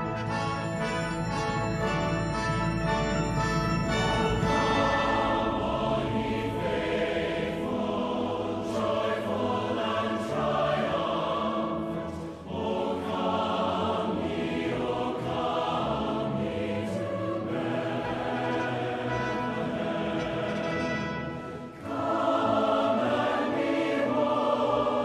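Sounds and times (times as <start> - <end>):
choir singing: 0.0 - 25.0
symphony orchestra: 0.0 - 25.0.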